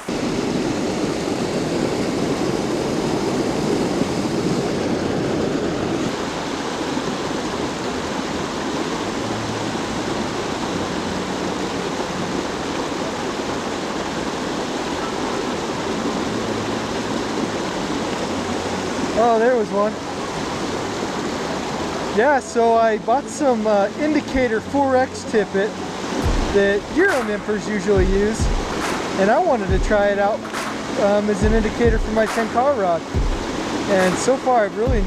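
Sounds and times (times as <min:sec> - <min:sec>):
small waterfall rushing: 0:00.0 - 0:35.0.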